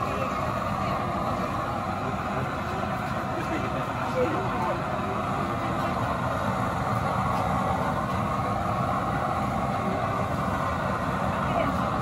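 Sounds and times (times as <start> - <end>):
blower fan: 0.0 - 12.0
oil burning in stove: 0.0 - 12.0.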